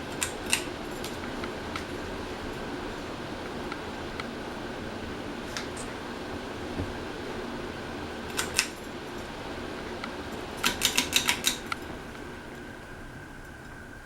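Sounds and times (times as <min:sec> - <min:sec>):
ceiling fan whirring: 0:00.0 - 0:14.0.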